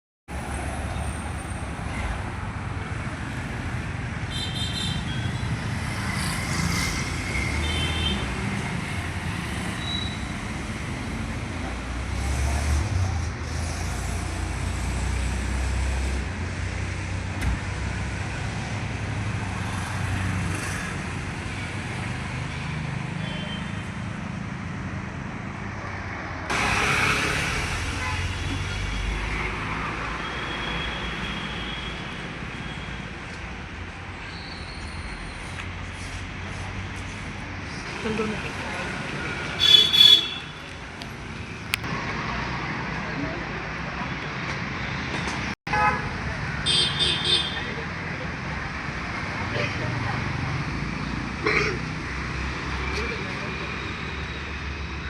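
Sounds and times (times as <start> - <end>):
road traffic rumble: 0.3 - 55.0.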